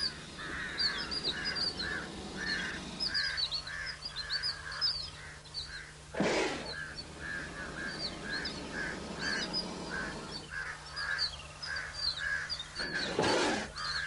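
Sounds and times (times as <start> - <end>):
birds calling: 0.0 - 14.0
faint low hum: 0.0 - 14.0
higher bird chirps: 0.0 - 14.0.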